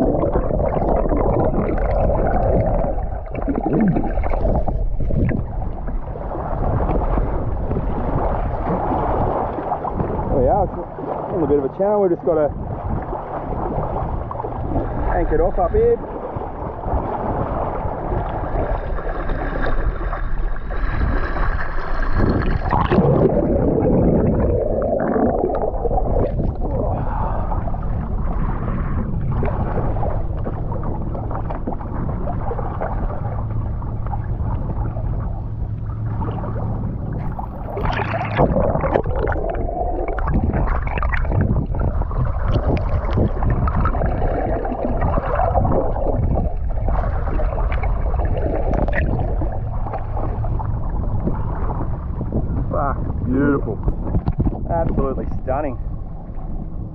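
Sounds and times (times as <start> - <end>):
boat motor rumble: 0.0 - 56.9
water sloshing around hull: 0.0 - 56.9.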